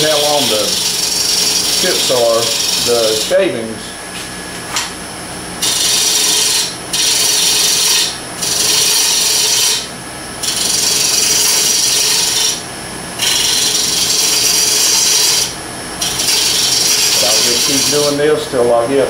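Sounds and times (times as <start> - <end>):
gouge scraping spinning wood: 0.0 - 4.7, 5.6 - 19.0
lathe motor hum: 0.0 - 19.0.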